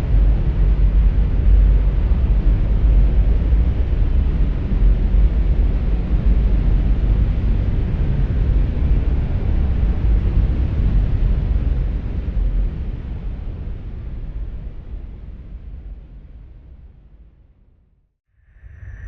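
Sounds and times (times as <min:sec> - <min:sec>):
deep steady rumble: 0:00.0 - 0:17.7.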